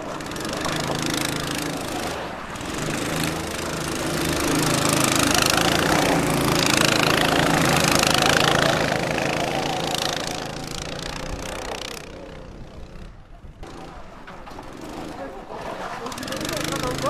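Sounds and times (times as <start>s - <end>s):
kart engine driving past: 0.0s - 17.0s.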